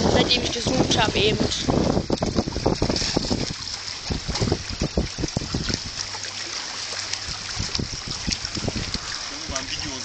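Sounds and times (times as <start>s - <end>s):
wind noise on microphone: 0.0s - 6.1s, 7.2s - 10.0s
waves lapping against stones: 0.0s - 10.0s.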